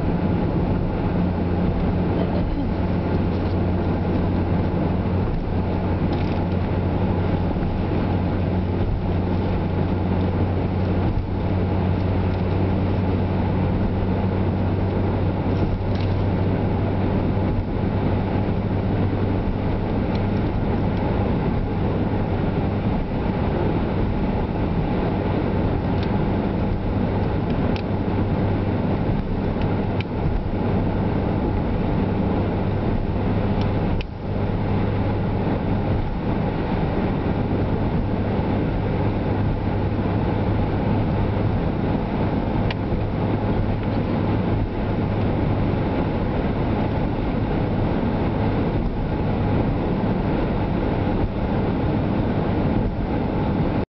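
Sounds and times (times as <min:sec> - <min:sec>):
car road and engine noise: 0:00.0 - 0:53.9.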